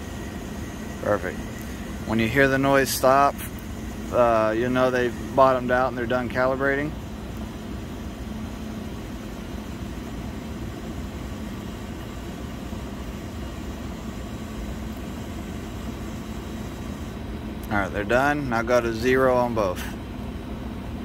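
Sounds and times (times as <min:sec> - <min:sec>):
motorized valves humming: 0:00.0 - 0:21.0.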